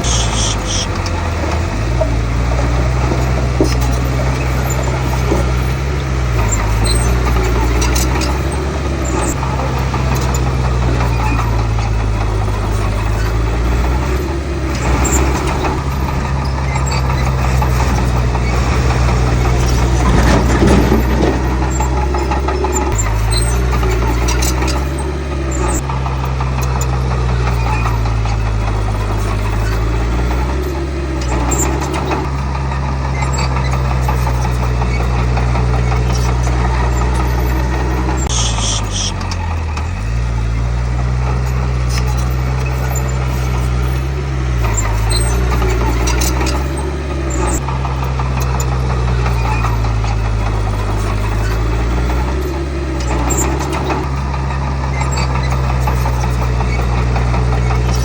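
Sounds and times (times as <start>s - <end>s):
bulldozer diesel engine running: 0.0s - 58.0s
metallic squeaks and clicks: 0.0s - 58.0s.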